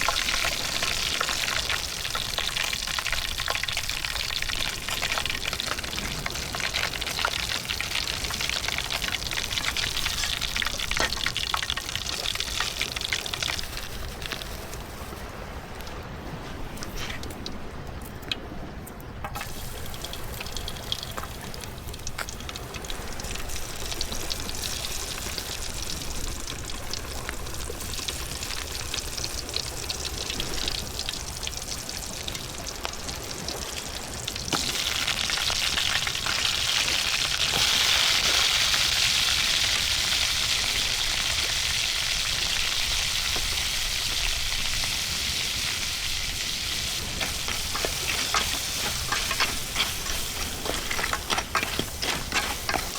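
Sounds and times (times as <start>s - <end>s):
food sizzling over fire: 0.0s - 17.6s, 19.2s - 52.9s.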